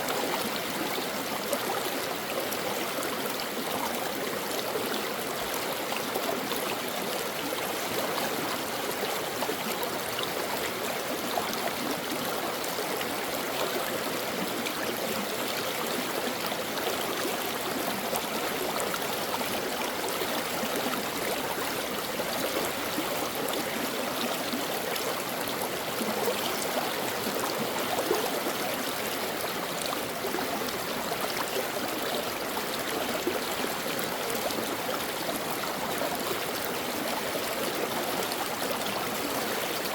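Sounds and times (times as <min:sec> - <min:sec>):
brook water rushing and babbling: 0:00.0 - 0:39.9.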